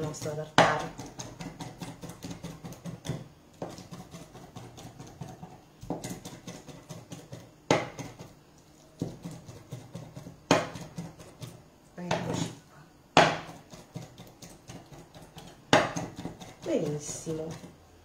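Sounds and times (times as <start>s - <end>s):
knife chopping fish on wood: 0.0s - 8.3s, 9.0s - 12.5s, 13.2s - 17.7s.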